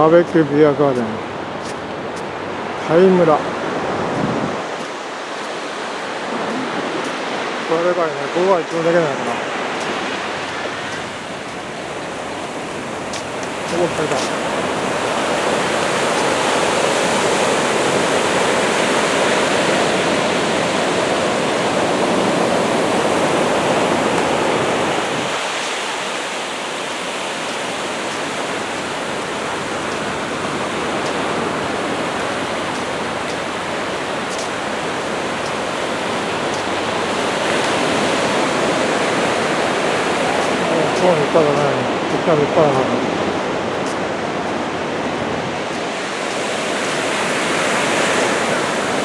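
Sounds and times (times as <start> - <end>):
small waves washing onto beach: 0.0 - 49.0.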